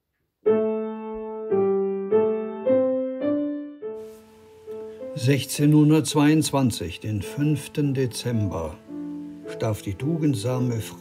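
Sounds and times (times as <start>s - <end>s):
slow piano notes: 0.4s - 11.0s.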